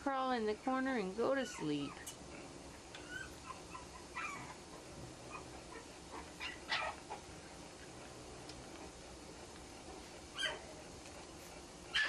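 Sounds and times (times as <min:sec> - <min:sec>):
puppies vocalizing: 0:00.6 - 0:12.0.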